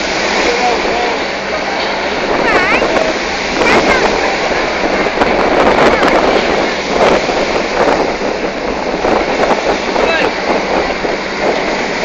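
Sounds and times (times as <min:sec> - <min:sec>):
hovercraft engine drone: 0:00.0 - 0:12.0
surf breaking on beach: 0:00.0 - 0:12.0
wind buffeting microphone: 0:00.0 - 0:12.0.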